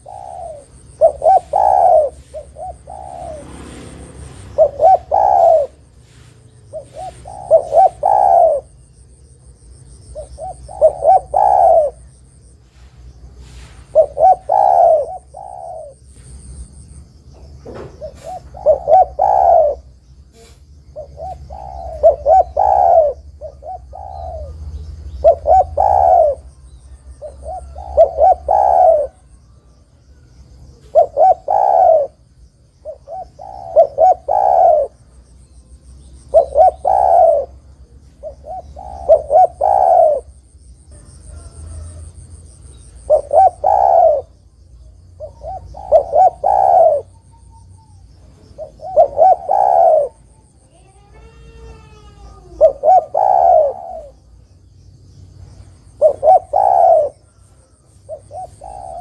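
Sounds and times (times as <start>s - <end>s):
dove cooing: 0.0s - 16.6s, 17.4s - 54.5s, 55.8s - 59.0s.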